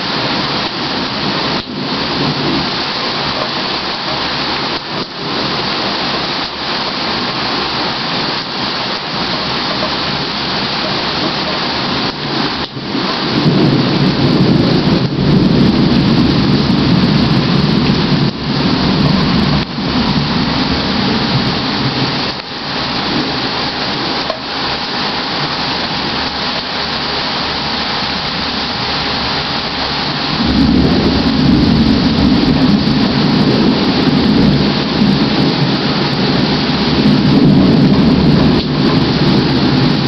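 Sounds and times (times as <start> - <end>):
heavy rain: 0.0 - 40.0
thunder rumbling: 0.0 - 40.0.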